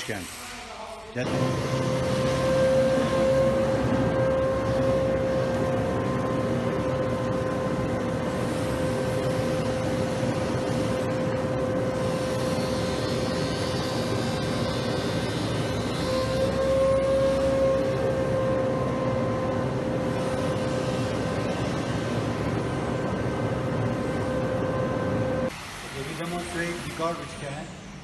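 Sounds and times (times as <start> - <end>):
street sweeper whining: 0.0 - 28.0.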